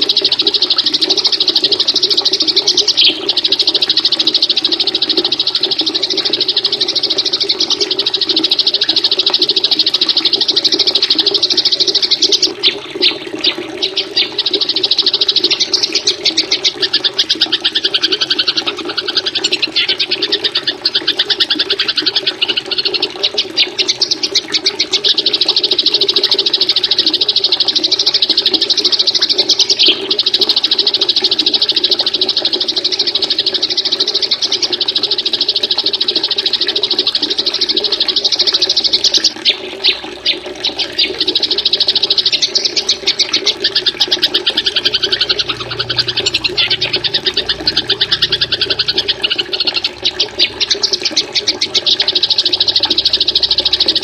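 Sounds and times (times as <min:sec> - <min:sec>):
running water: 0:00.0 - 0:54.0
songbirds trilling and chattering: 0:00.0 - 0:54.0.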